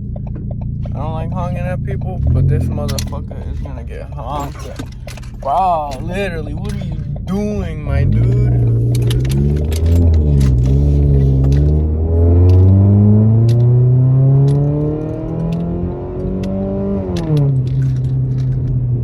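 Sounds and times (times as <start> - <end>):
car exhaust accelerating: 0.0 - 19.0.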